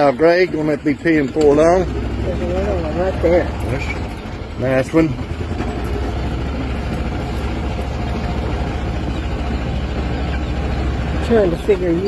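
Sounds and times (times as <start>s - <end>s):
small vehicle engine droning: 0.0s - 12.0s.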